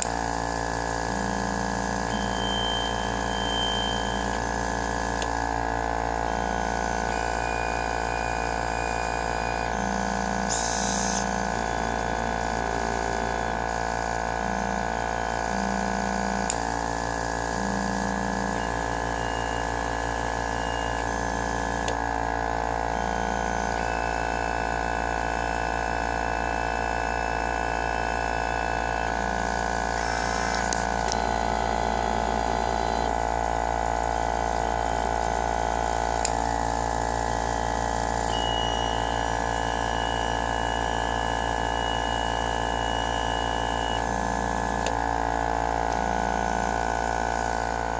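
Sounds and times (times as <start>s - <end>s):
machine motors droning: 0.0s - 47.9s.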